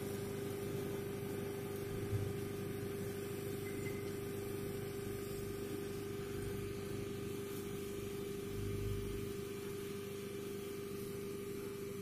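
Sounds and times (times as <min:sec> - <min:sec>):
steady tone and hum: 0:00.0 - 0:12.0.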